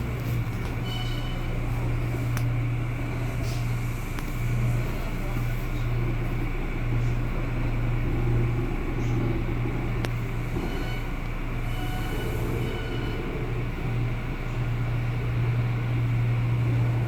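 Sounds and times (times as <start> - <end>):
subway car low hum: 0.0 - 17.0.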